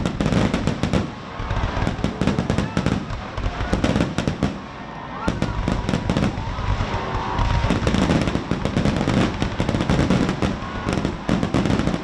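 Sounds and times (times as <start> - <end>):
fireworks crackling pops and bangs: 0.0 - 12.0.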